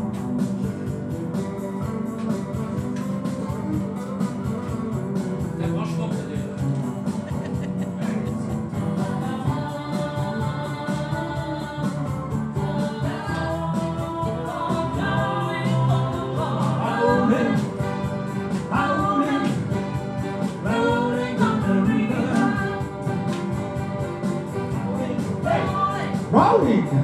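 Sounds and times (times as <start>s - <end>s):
electric guitar rock song: 0.0s - 27.0s
keyboard playing: 0.0s - 27.0s
steady beat: 0.0s - 27.0s.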